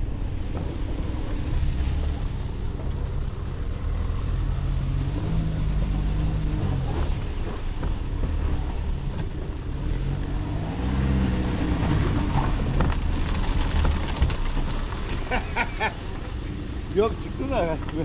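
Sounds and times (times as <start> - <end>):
car engine under load: 0.0 - 18.0.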